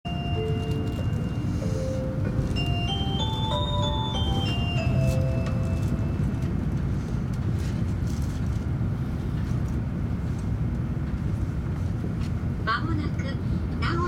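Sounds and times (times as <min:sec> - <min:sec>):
train rumble inside cabin: 0:00.1 - 0:14.0.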